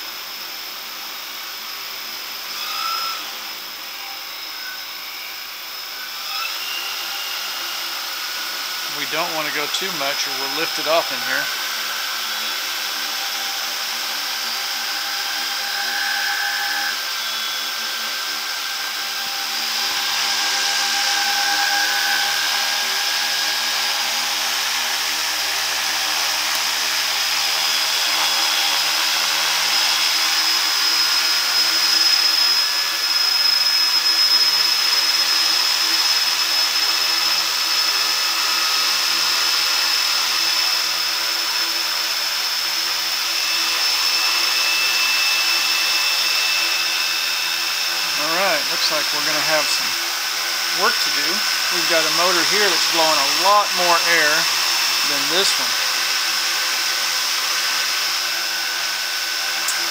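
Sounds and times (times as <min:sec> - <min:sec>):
drone motors whining: 0:00.8 - 0:59.9.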